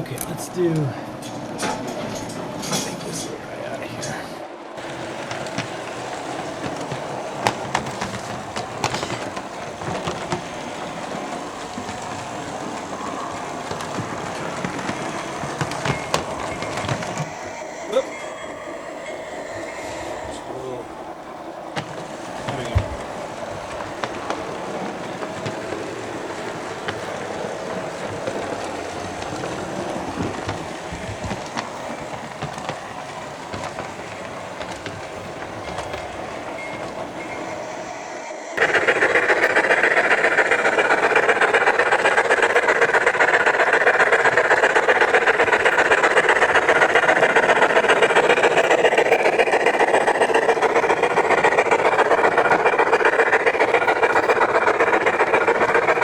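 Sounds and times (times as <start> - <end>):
model train clicks: 0.0 - 37.9, 38.6 - 56.0
model train running: 0.0 - 56.0
dense rattle: 4.8 - 37.8, 38.6 - 56.0.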